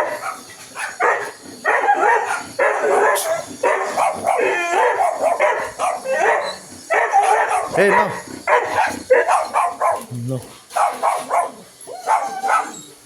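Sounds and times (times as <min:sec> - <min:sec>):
dog whining and barking: 0:00.0 - 0:10.0, 0:10.7 - 0:13.0.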